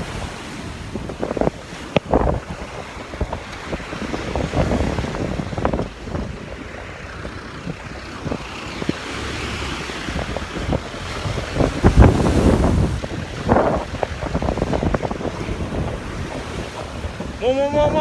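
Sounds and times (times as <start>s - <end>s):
sea surf rushing: 0.0s - 18.0s
wind buffeting microphone: 0.0s - 18.0s.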